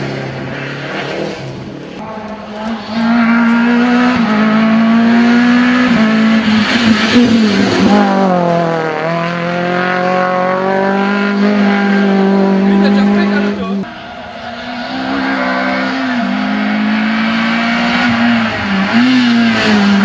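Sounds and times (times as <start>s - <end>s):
car engine driving away: 0.0s - 20.0s
rally car engine at full throttle: 0.0s - 20.0s.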